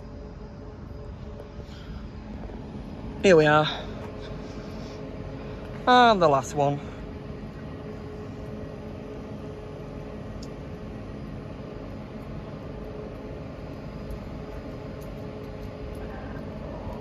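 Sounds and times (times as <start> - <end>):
train humming at platform: 0.0 - 17.0.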